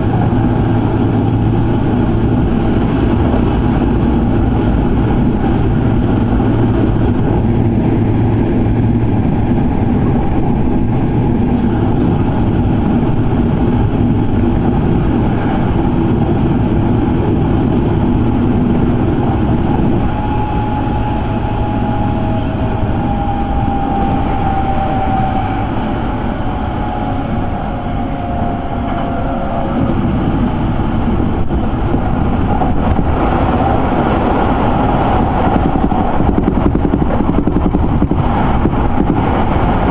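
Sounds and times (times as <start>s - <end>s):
thin electric whine: 0.0s - 33.1s
train wheels rumbling: 0.0s - 39.9s.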